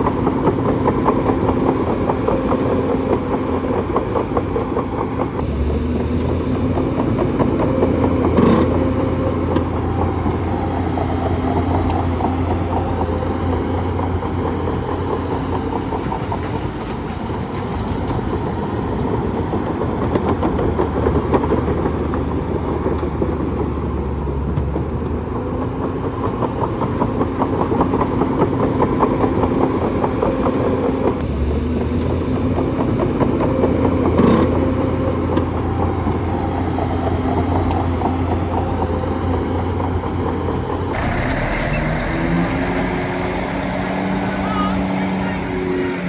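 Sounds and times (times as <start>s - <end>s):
bulldozer diesel engine chugging: 0.0s - 46.0s.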